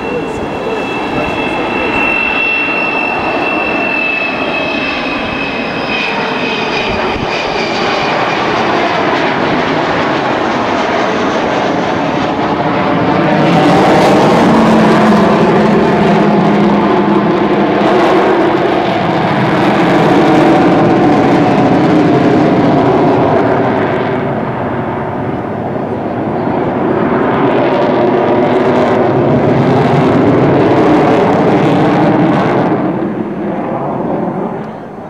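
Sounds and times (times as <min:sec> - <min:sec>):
jet bomber flying past: 0:00.0 - 0:35.0.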